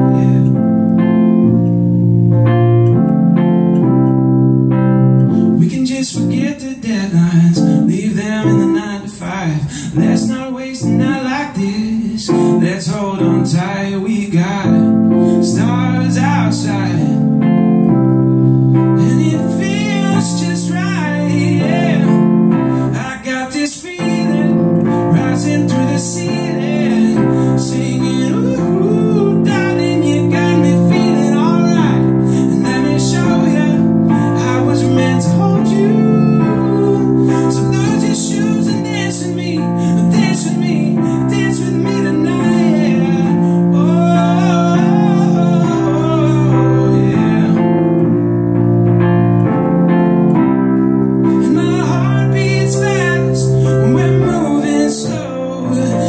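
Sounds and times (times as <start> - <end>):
man singing: 0.0 - 0.6, 5.6 - 17.3, 19.0 - 48.0, 51.3 - 56.0
keyboard playing held chords: 0.0 - 56.0.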